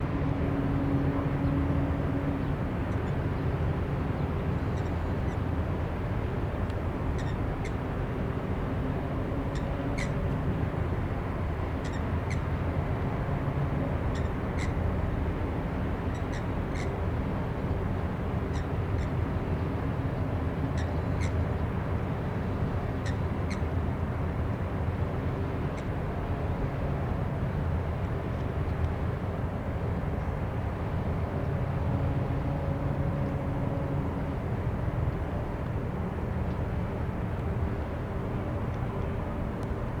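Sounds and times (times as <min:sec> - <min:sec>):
ship drone: 0:00.0 - 0:40.0.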